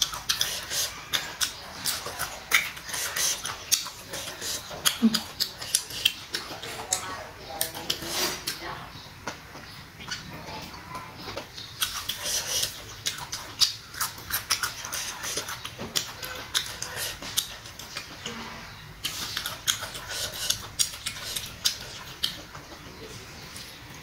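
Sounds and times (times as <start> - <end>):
wet crunchy chewing: 0.0 - 8.6, 10.0 - 24.0.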